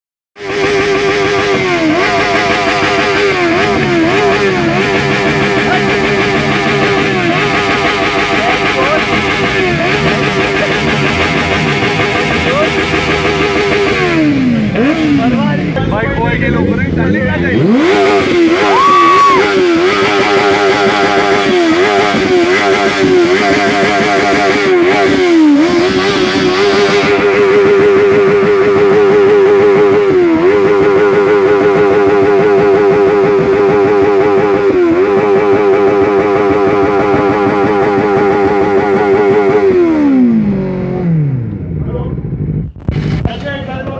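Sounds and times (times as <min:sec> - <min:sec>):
motorcycle engine revving: 0:00.4 - 0:43.9.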